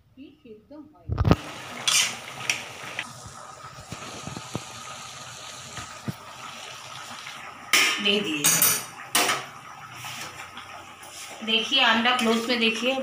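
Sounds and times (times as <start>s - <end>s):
tomato sizzling in hot oil: 1.2s - 13.0s.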